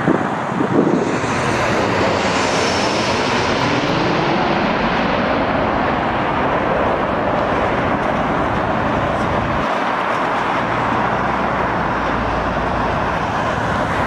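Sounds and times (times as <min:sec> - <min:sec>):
jet engines roaring overhead: 0:00.0 - 0:14.0.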